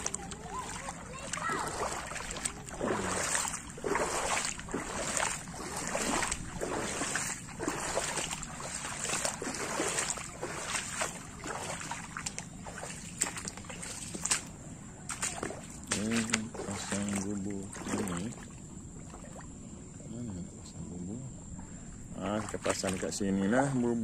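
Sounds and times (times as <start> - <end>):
footsteps wading through water: 0.0 - 19.7, 22.1 - 23.8.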